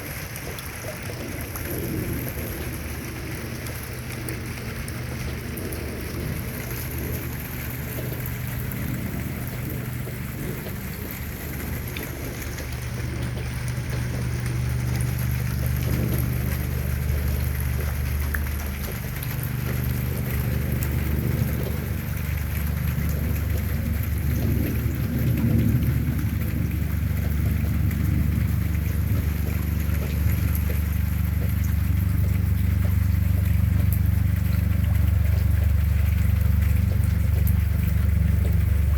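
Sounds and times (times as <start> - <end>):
steady rain falling: 0.0 - 38.9
deep low rumble: 1.2 - 38.9.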